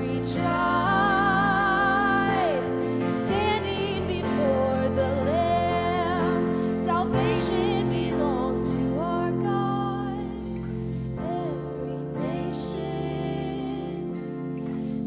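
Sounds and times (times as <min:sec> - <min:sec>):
slow worship music: 0:00.0 - 0:15.0.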